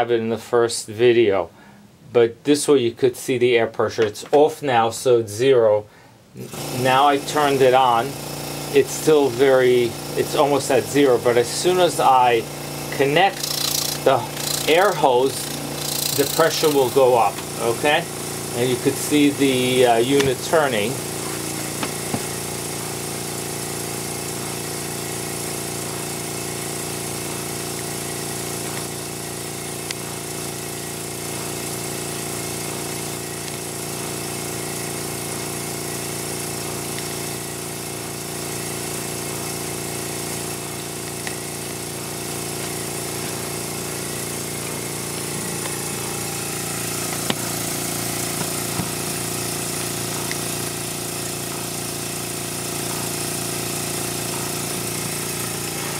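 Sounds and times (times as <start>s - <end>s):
air compressor humming: 6.4s - 55.9s.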